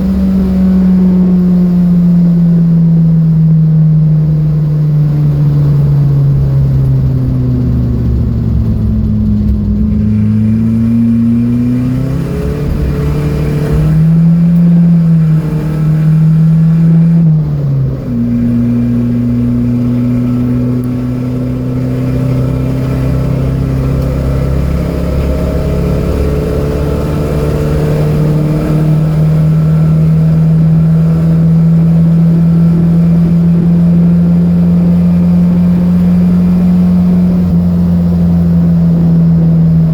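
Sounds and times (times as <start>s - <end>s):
car engine revving under load: 0.0s - 39.9s
gear changes: 0.0s - 39.9s.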